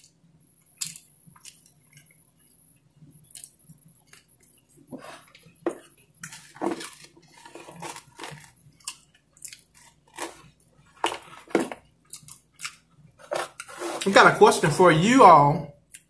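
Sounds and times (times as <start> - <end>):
person chewing food: 0.7 - 14.1.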